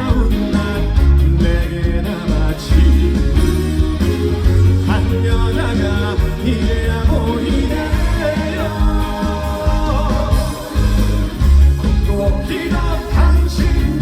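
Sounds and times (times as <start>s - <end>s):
band with heavy bass line: 0.0s - 14.0s
man singing: 0.0s - 14.0s.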